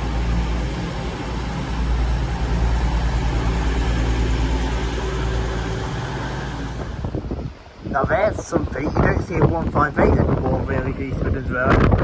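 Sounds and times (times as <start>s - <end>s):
diesel train rumbling past: 0.0s - 11.2s.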